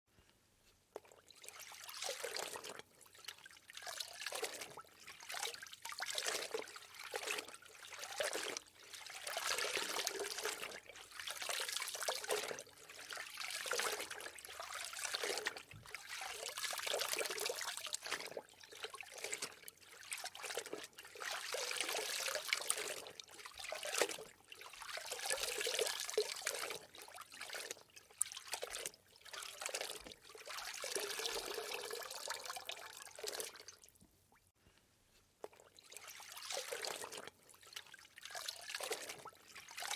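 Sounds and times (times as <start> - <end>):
water trickling and sloshing: 0.9 - 34.8, 35.4 - 39.9.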